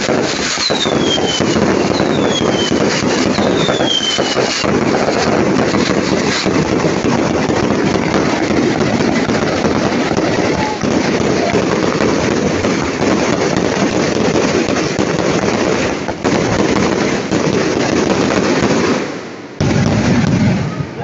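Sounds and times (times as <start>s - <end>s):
fireworks bursts and crackling: 0.0s - 21.0s.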